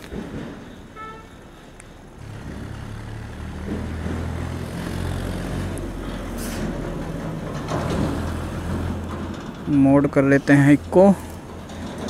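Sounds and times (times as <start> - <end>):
street traffic: 0.0 - 12.0
vehicle engine running: 2.2 - 12.0.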